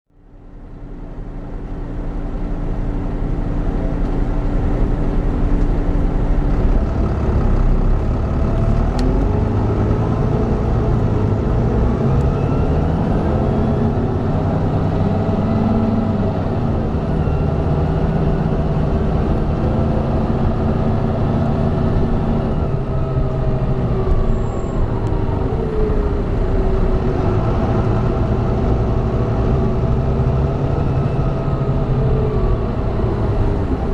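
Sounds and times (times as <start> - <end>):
bus engine accelerating: 0.2 - 33.9.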